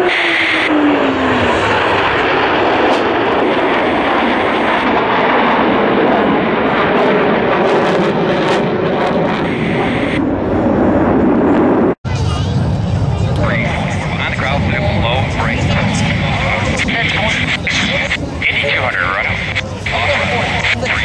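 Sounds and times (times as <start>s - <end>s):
jet fighters passing overhead: 0.0s - 21.0s.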